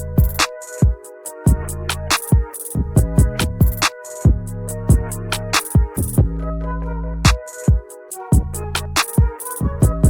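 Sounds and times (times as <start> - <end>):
electronic music with heavy beat: 0.0 - 10.0.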